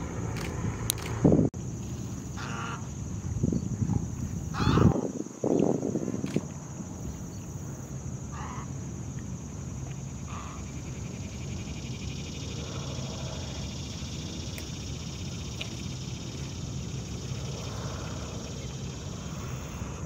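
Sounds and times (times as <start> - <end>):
fast pulsing insect trill: 0.0 - 20.0
high-pitched insect chorus: 0.0 - 20.0.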